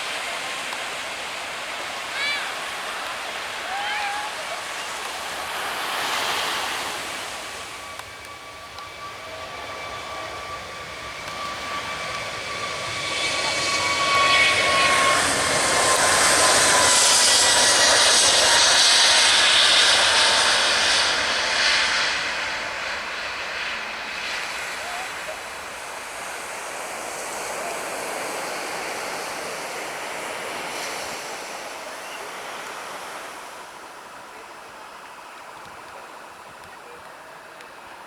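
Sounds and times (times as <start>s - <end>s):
jet airliner passing: 0.0s - 34.4s.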